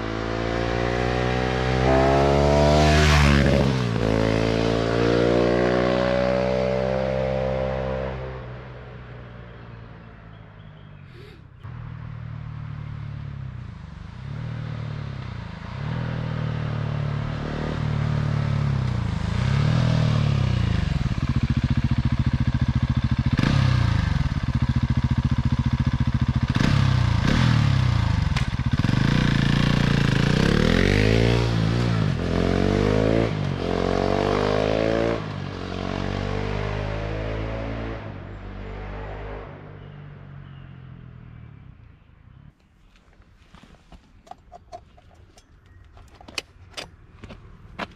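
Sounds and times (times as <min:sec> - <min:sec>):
motorcycle engine revving: 0:00.0 - 0:09.3, 0:11.7 - 0:41.8.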